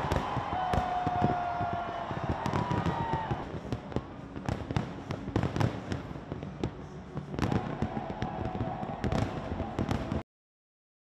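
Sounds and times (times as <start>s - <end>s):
fireworks bangs: 0.0s - 10.2s
fireworks crackling: 0.0s - 10.2s.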